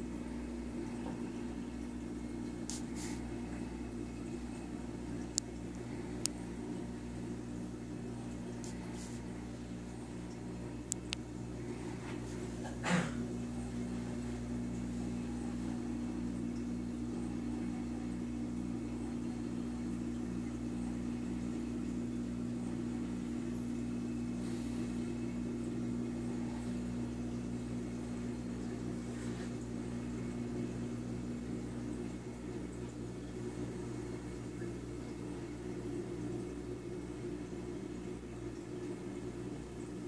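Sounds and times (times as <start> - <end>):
aquarium equipment hum: 0.0 - 40.0.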